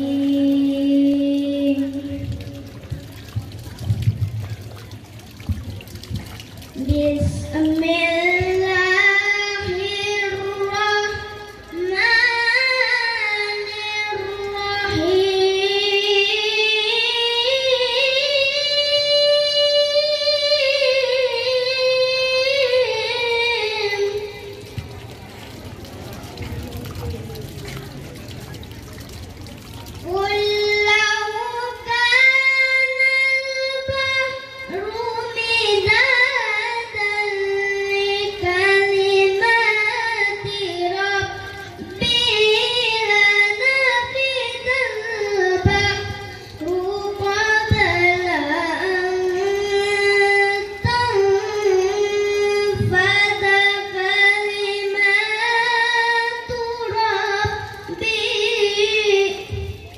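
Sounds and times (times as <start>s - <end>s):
boy chanting into a microphone: 0.0s - 25.1s, 29.0s - 59.9s.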